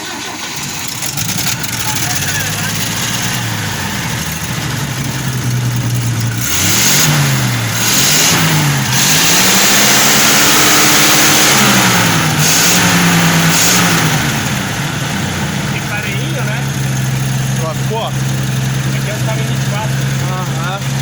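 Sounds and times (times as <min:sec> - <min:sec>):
truck engine idling and revving: 0:00.0 - 0:21.0.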